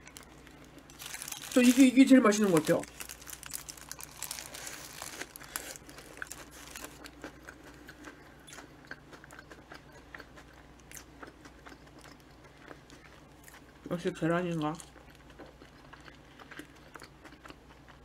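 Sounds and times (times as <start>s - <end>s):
chewing soft sandwich: 2.8s - 13.9s, 14.6s - 18.0s.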